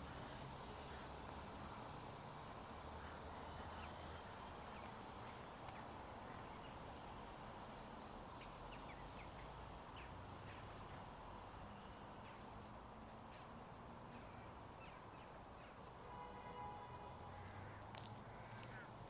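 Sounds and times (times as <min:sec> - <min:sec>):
faint bird calls: 0:02.8 - 0:12.6, 0:13.2 - 0:19.0.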